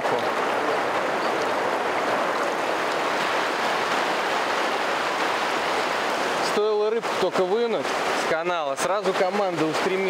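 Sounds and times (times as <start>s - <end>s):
river water rushing over stones: 0.0s - 10.0s.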